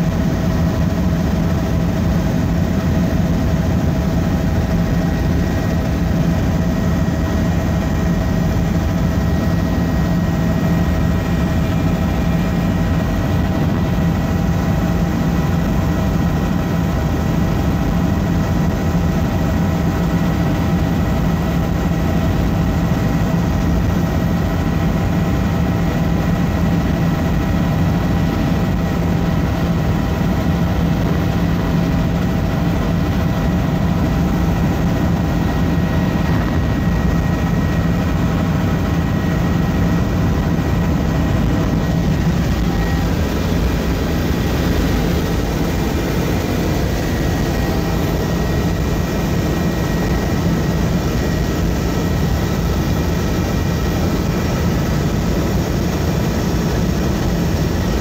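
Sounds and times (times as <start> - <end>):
faint steady whines: 0.0 - 58.0
helicopter engine and rotor drone: 0.0 - 58.0.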